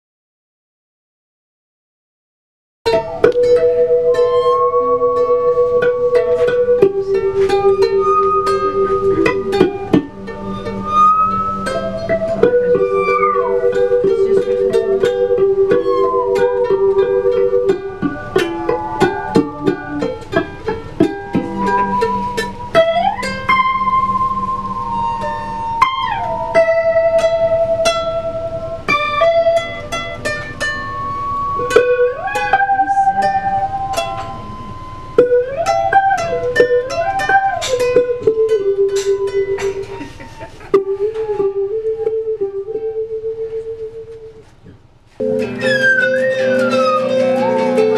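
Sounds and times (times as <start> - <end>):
sliding held melody line: 2.9 - 44.5, 45.2 - 47.9
plucked string instruments: 2.9 - 47.9.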